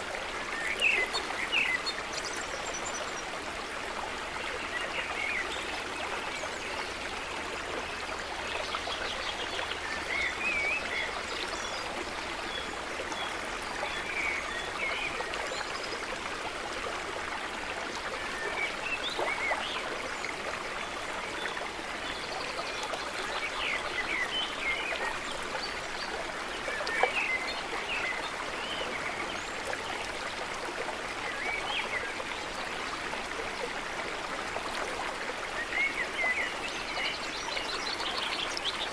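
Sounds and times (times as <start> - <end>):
stream rushing water: 0.0 - 38.9.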